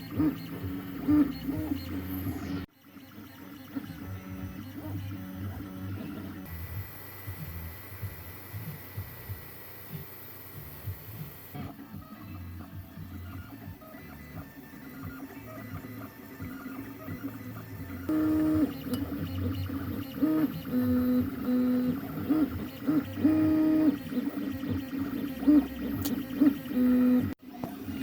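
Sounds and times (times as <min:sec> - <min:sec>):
printer stepper motors whining: 0:00.0 - 0:28.0.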